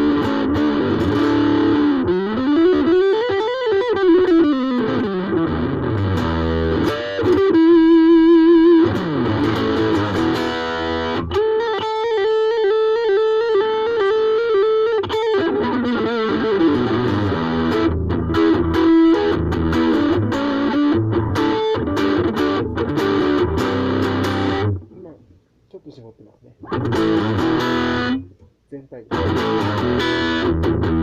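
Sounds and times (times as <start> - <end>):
electric guitar lead: 0.0 - 24.9, 26.6 - 28.4, 29.1 - 31.0.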